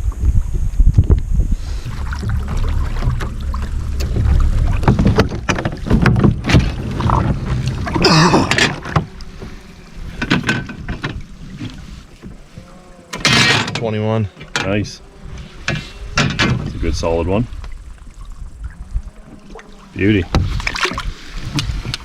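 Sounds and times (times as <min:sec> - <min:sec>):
wind rumble on microphone: 0:00.0 - 0:13.8, 0:14.4 - 0:22.0
gear clicking and scraping on kayak: 0:01.6 - 0:22.0.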